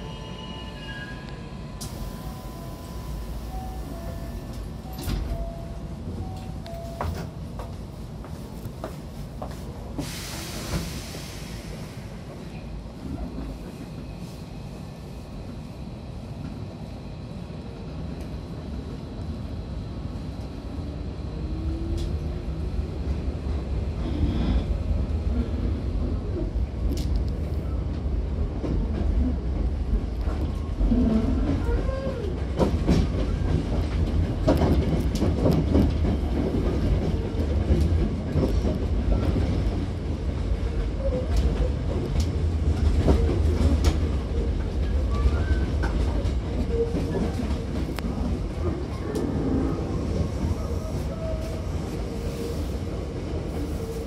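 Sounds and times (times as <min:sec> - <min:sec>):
train running rumble: 0:01.3 - 0:54.0.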